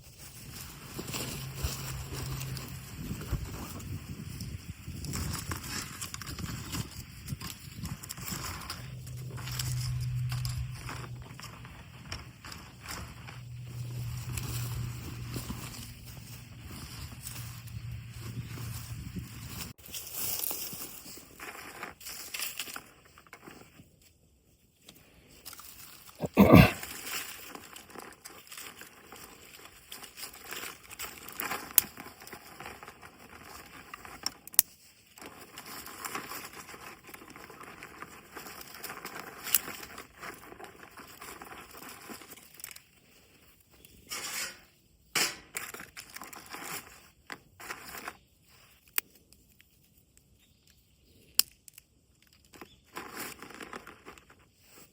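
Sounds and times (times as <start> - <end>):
dry material rustling and crinkling: 0.0 - 54.9.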